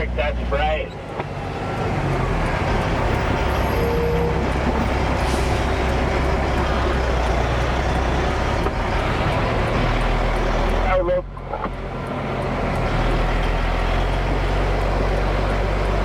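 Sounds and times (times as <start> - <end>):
diesel truck engine humming: 0.0 - 16.0
road noise: 0.0 - 16.0.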